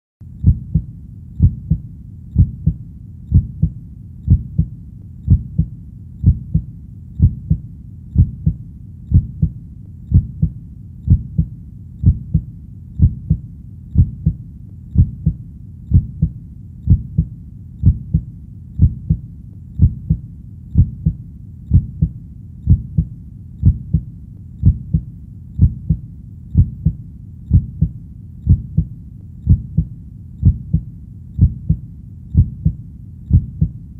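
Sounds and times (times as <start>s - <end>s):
constant low hum: 0.2s - 33.9s
heartbeat thumps: 0.4s - 33.8s.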